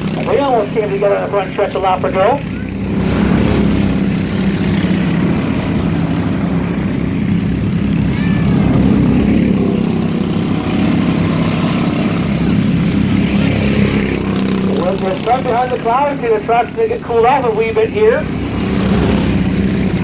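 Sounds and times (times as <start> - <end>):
racing truck engines drone: 0.0 - 20.0.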